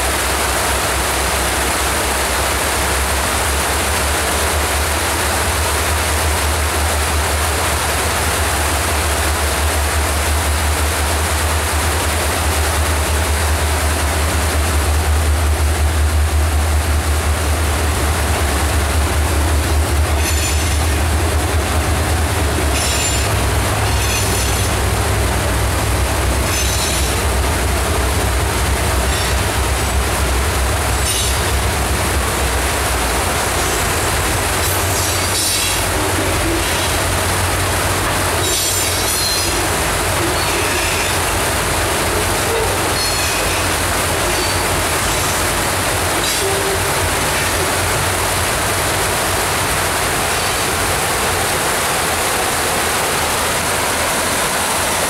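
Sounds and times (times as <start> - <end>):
diesel locomotive engine rumble: 0.0 - 55.0
rushing creek: 0.0 - 55.0.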